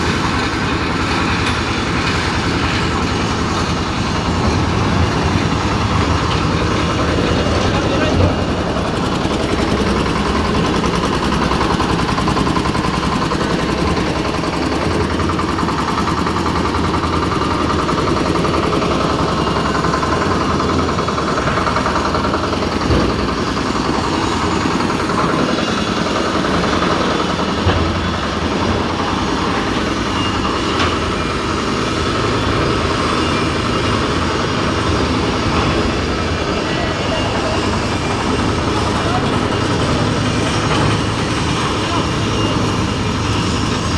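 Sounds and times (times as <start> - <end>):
machine engine running: 0.0 - 43.9.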